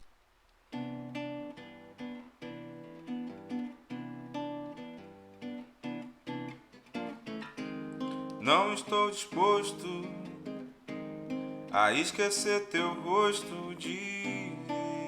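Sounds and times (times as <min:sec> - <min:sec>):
acoustic guitar strumming: 0:00.7 - 0:15.0.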